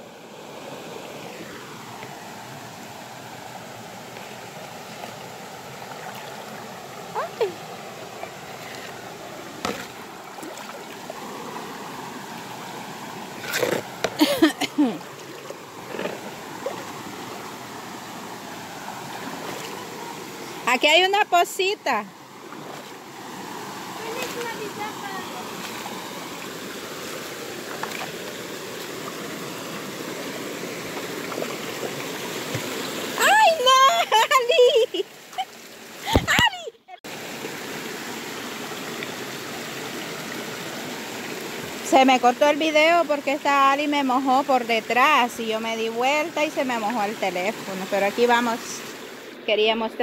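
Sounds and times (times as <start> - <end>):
river flowing over stones: 0.0 - 50.0.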